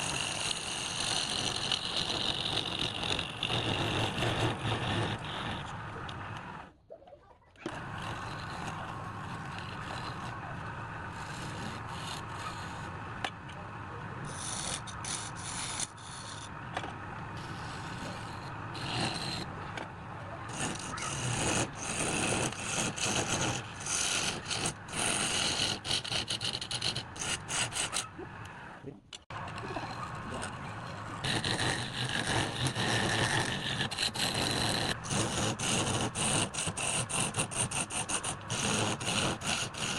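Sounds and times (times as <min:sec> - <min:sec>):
tools scraping wood: 0:00.0 - 0:06.6, 0:07.6 - 0:39.9.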